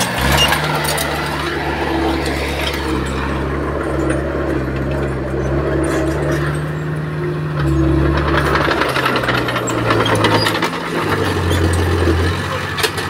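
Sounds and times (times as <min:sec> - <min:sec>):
bulldozer diesel engine running: 0:00.0 - 0:13.0
rattle of metallic clanks: 0:00.0 - 0:13.0.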